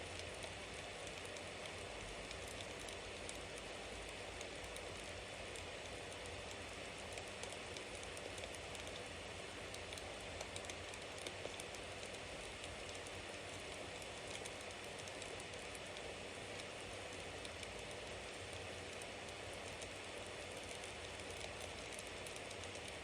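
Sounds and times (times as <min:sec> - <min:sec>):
burning wood crackling and popping: 0:00.0 - 0:23.0.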